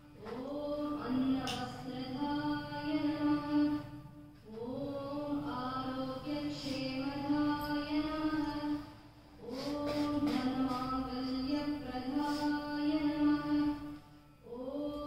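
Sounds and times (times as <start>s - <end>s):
devotional chant singing: 0.0s - 15.0s.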